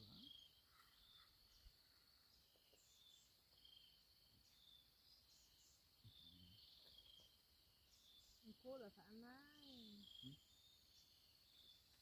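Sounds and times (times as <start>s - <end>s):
insect high chirps: 0.0s - 12.0s.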